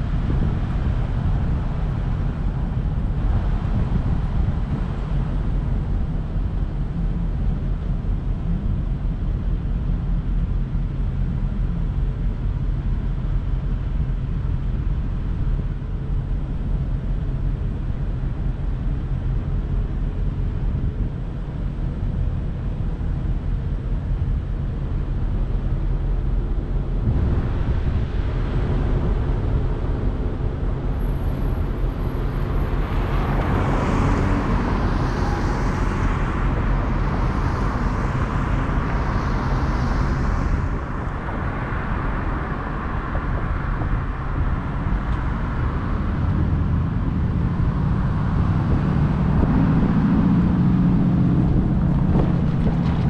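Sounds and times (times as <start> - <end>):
passing traffic: 0.0 - 53.0.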